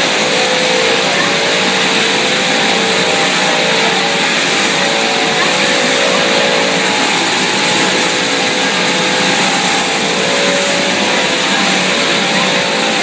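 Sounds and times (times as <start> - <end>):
production line machinery running: 0.0 - 13.0.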